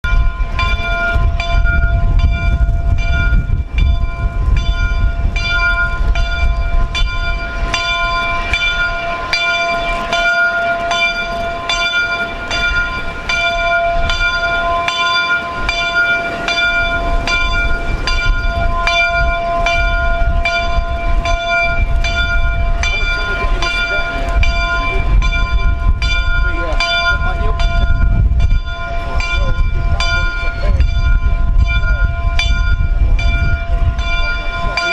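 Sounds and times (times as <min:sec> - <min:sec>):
locomotive bell ringing: 0:00.0 - 0:34.9
low rumble: 0:00.0 - 0:34.9.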